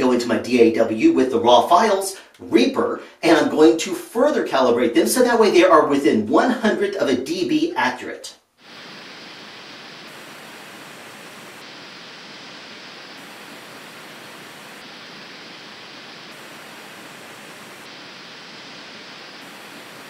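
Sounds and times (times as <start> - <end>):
pink noise hiss from speaker: 0.0 - 20.0.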